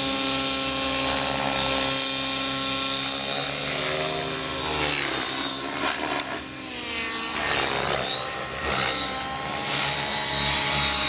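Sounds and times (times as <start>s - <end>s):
model helicopter engine and rotor: 0.0s - 11.0s.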